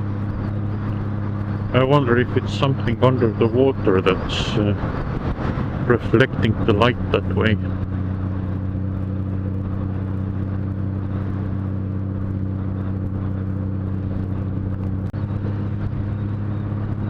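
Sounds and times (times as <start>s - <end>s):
motorcycle engine cruising: 0.0s - 17.0s
rushing noise: 0.0s - 17.0s.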